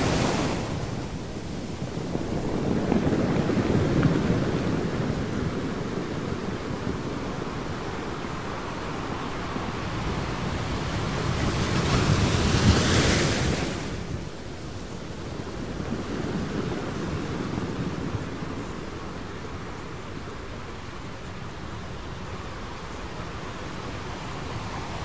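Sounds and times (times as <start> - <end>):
ocean waves: 0.0 - 25.0.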